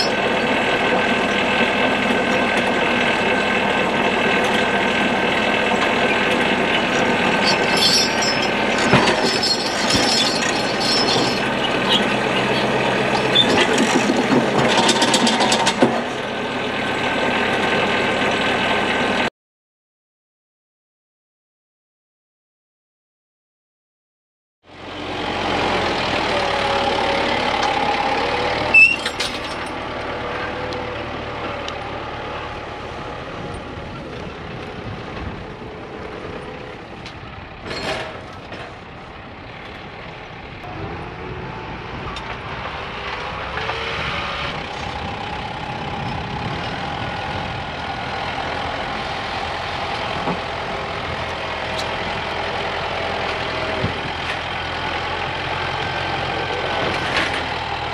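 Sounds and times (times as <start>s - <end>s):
tractor diesel engine running: 0.0s - 19.3s, 24.7s - 57.9s.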